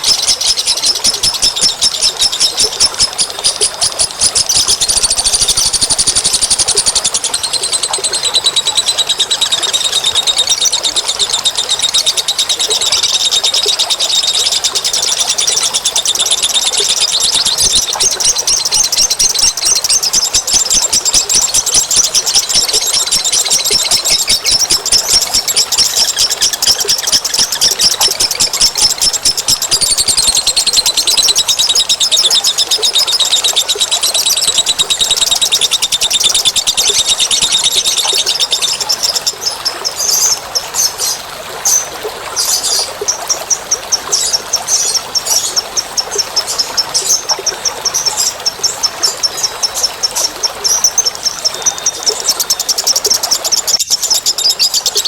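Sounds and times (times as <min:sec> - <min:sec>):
small birds chattering in trills: 0:00.0 - 0:55.0.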